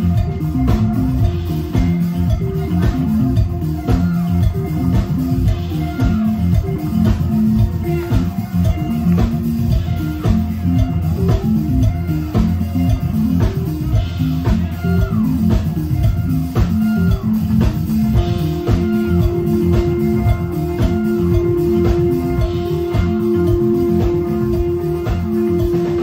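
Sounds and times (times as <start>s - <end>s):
bass guitar: 0.0s - 26.0s
drum kit: 0.0s - 26.0s
electric guitar: 0.0s - 26.0s.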